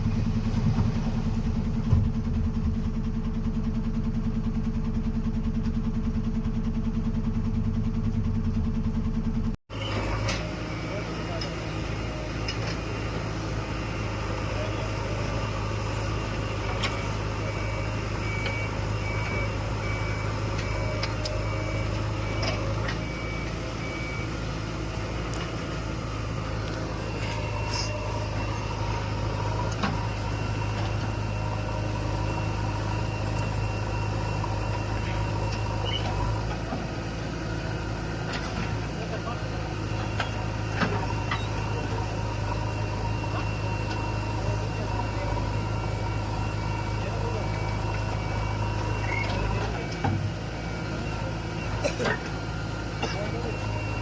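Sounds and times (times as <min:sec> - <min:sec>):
diesel truck engine running: 0:00.0 - 0:54.0
reversing alarm beeping: 0:09.7 - 0:54.0.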